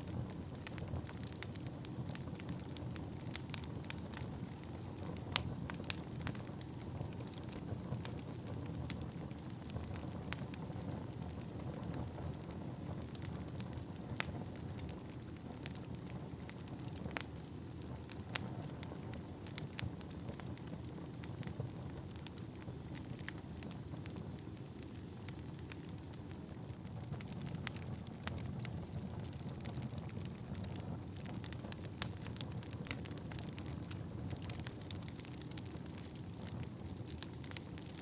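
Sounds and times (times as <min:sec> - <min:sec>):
logs crackling and popping: 0:00.1 - 0:38.0.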